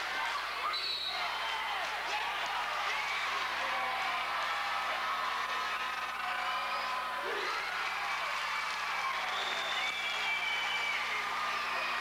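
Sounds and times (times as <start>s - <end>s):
crowd talking and shouting: 0.0s - 12.0s.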